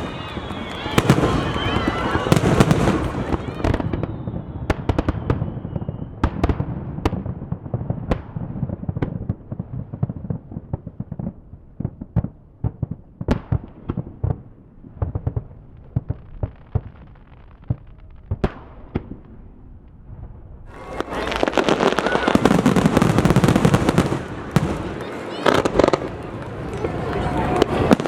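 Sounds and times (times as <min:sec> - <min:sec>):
fireworks bangs: 0:00.0 - 0:28.0
fireworks booms: 0:00.0 - 0:28.0
fireworks crackles: 0:00.0 - 0:28.0.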